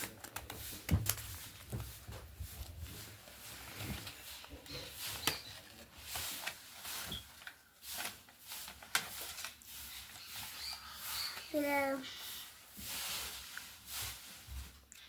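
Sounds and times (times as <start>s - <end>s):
packaging rustling and crinkling: 0.0s - 14.9s.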